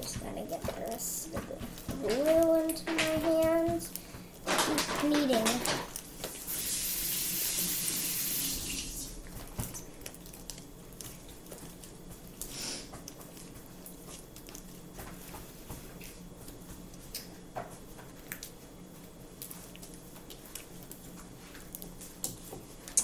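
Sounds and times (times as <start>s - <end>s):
faint steady hum: 0.0s - 23.0s
slime squelching: 0.0s - 23.0s.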